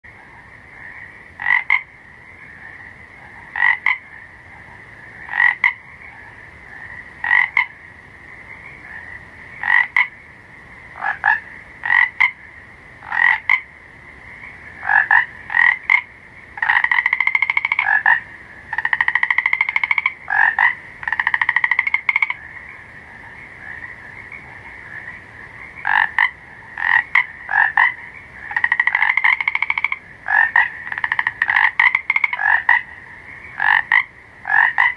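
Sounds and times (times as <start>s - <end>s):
frogs croaking: 0.0s - 34.9s
rapid-pulsed frog trilling: 0.1s - 10.2s, 14.3s - 34.9s
frog chorus: 0.1s - 34.9s.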